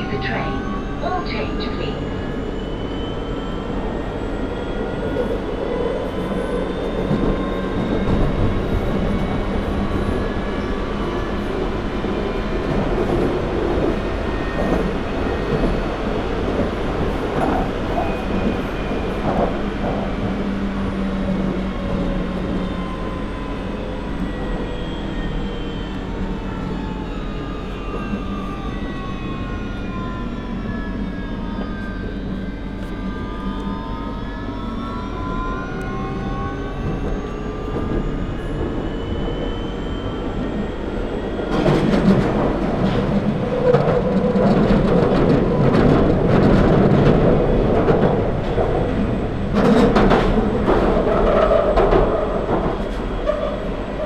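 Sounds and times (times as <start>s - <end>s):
wheel and track rumble: 3.4s - 54.0s.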